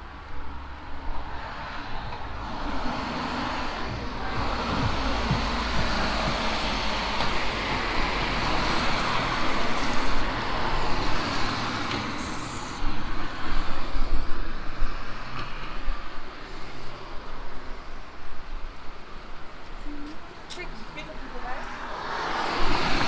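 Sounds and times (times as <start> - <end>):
cars passing on wet road: 0.0 - 23.0.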